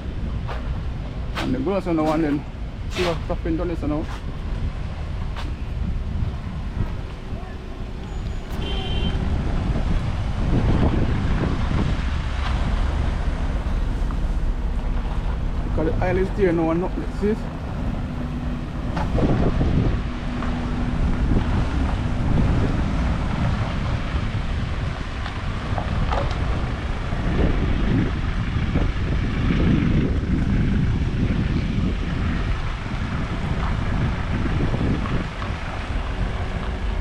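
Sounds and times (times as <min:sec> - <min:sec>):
low rumble: 0:00.0 - 0:37.0
wind buffeting microphone: 0:00.0 - 0:37.0.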